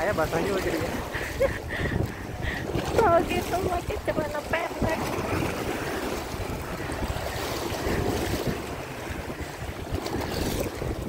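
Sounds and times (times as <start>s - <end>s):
sea waves splashing on concrete: 0.0s - 11.0s
wind rumbling on microphone: 0.0s - 11.0s.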